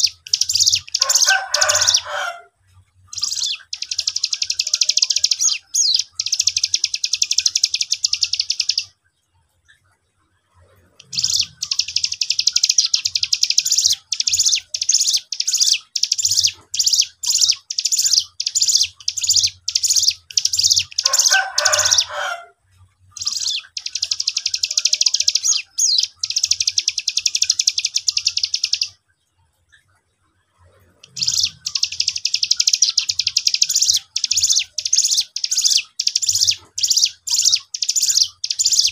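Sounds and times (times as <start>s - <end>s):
songbird trilling: 0.0s - 2.3s, 3.1s - 9.0s, 11.0s - 22.4s, 23.2s - 29.0s, 31.0s - 38.9s.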